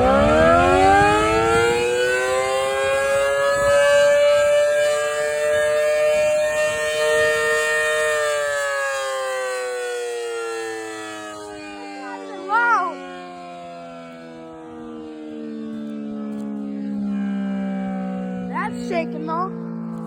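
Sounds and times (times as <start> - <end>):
electromechanical siren two-tone chord: 0.0 - 20.0.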